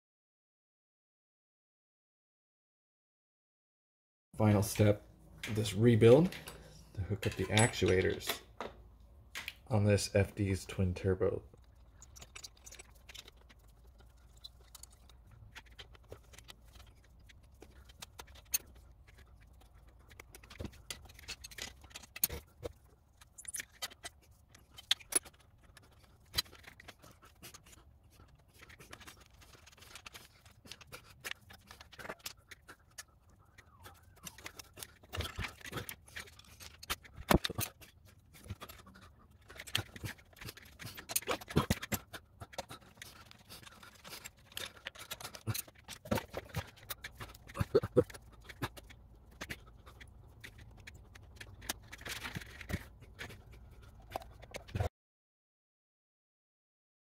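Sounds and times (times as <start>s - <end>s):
metal parts clicking and scraping: 4.4s - 8.5s, 11.6s - 33.3s, 33.9s - 54.9s.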